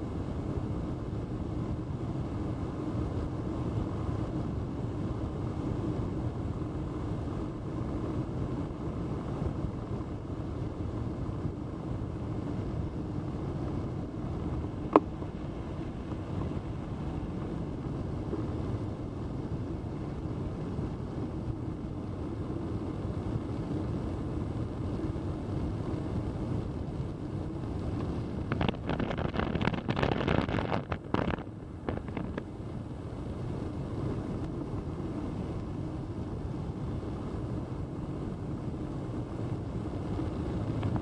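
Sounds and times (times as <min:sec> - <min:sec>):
wind buffeting microphone: 0:04.1 - 0:41.0.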